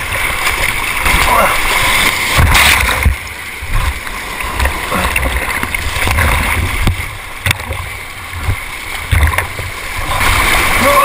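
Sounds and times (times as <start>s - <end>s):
water washing over camera: 0.0s - 11.0s
whitewater rapids rushing: 0.0s - 11.0s.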